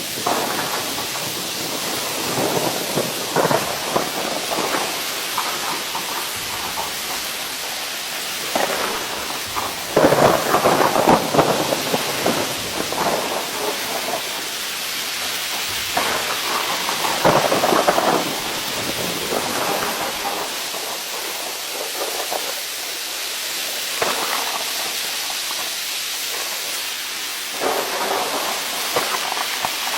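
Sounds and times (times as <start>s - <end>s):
heavy rain falling: 0.0s - 29.9s.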